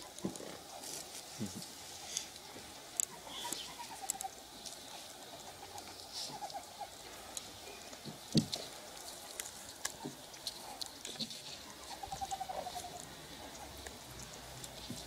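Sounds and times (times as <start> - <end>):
meerkats chirping and clicking: 2.2 - 15.0.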